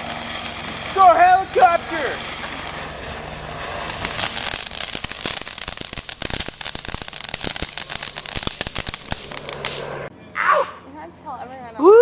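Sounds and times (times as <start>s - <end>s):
firework hissing and crackling: 0.0s - 10.1s.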